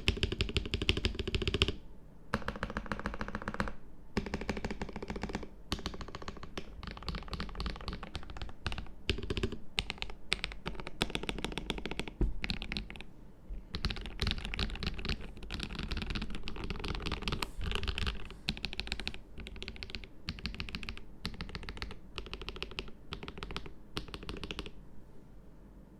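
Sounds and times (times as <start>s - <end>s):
fast mechanical keyboard typing: 0.0s - 13.0s, 13.7s - 24.8s.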